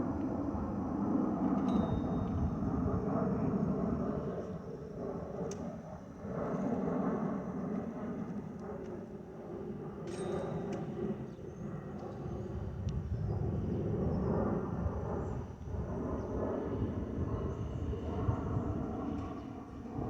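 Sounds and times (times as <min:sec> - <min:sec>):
jet engine low rumble: 0:00.0 - 0:20.0.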